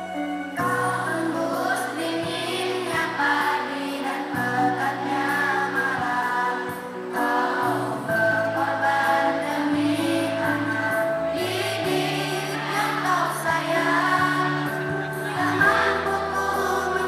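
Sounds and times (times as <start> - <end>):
children singing in unison: 0.6 - 17.0.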